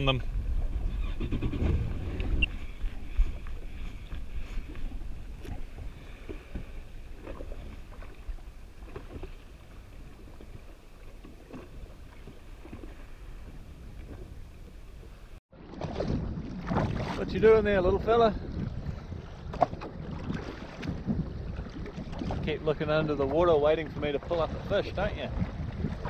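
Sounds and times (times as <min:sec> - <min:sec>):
water noise: 0:00.0 - 0:26.0
wind: 0:00.0 - 0:26.0.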